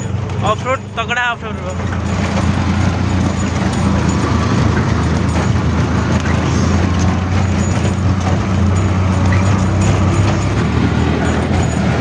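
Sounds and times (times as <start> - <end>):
auto-rickshaw engine droning: 0.0 - 12.0
rattle and road noise: 0.0 - 12.0.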